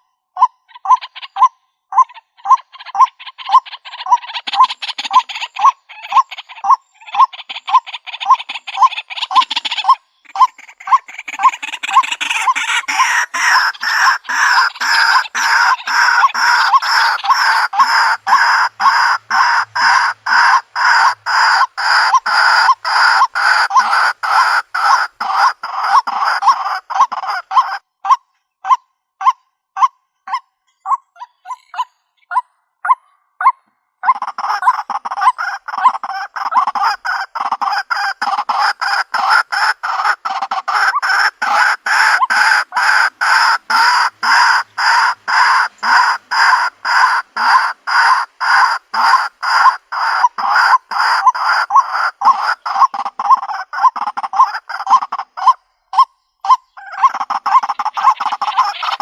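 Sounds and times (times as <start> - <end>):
waterhen harsh repeated calls: 0.0 - 59.0.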